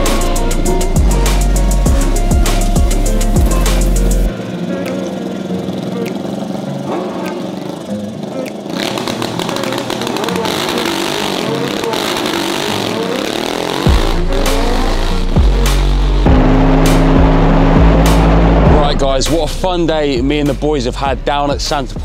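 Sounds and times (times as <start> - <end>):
motorcycle engine accelerating: 0.0 - 20.2
music: 0.0 - 22.0.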